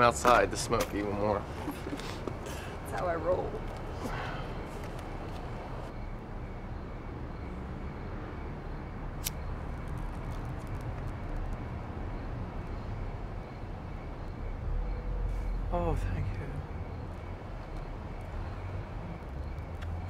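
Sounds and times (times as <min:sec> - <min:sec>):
city ambience rumble: 0:00.0 - 0:20.0.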